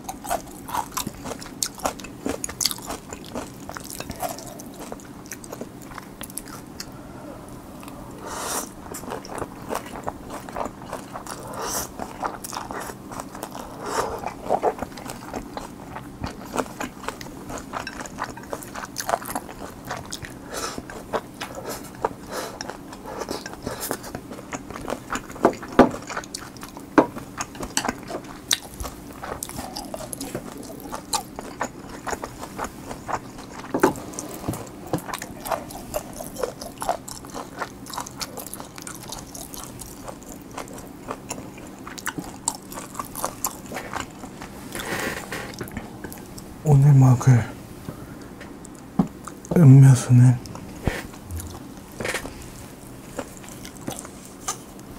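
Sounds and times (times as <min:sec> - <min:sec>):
person chewing food: 0:00.0 - 0:46.6, 0:47.9 - 0:49.6, 0:50.4 - 0:54.9.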